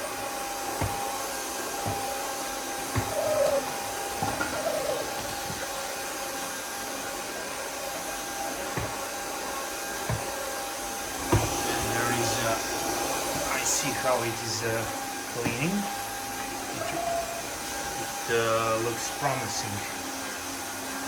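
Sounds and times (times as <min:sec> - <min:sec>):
vacuum motor whining: 0:00.0 - 0:21.0.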